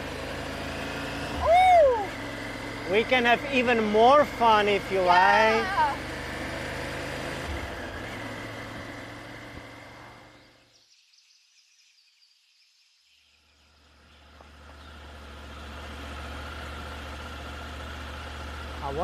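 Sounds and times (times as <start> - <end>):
motorcycle engine running: 0.0 - 10.7, 13.7 - 19.0.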